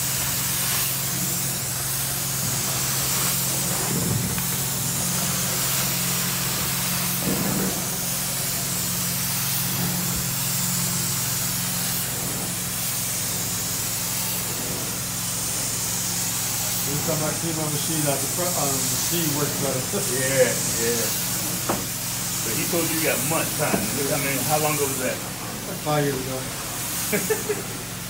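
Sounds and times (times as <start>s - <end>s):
water spray hiss: 0.0s - 28.0s.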